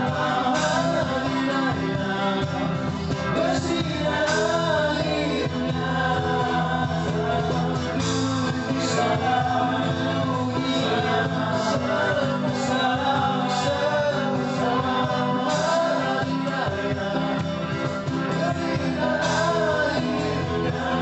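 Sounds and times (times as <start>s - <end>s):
live band playing: 0.0s - 21.0s
person singing: 0.0s - 21.0s.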